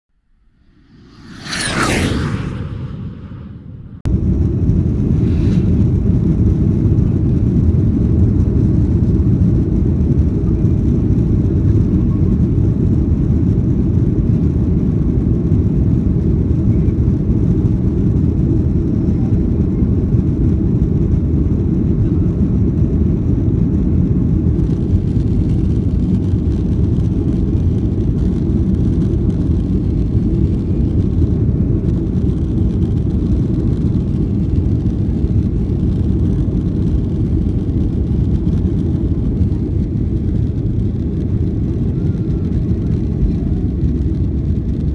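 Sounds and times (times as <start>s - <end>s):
jet engine cabin rumble: 0.2s - 44.9s.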